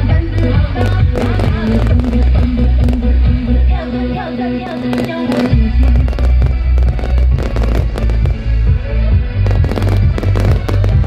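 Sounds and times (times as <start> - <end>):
music with heavy pulsing bass: 0.0 - 11.0
fireworks bangs and crackles: 0.1 - 3.4, 4.7 - 11.0.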